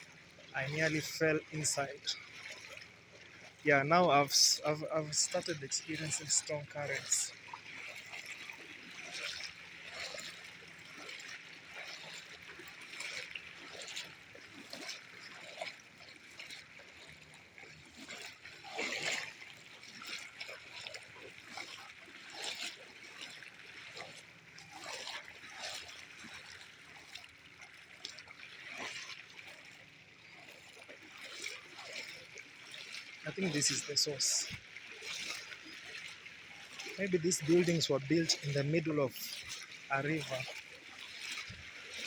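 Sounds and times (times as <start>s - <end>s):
floodwater rushing: 0.0s - 42.0s
splashes of someone wading: 0.0s - 42.0s.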